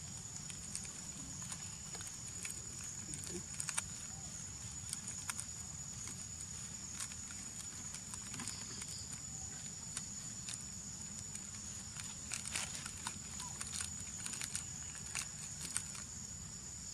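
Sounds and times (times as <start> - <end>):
plastic wrapper crackling: 0.2 - 4.2, 4.8 - 16.1.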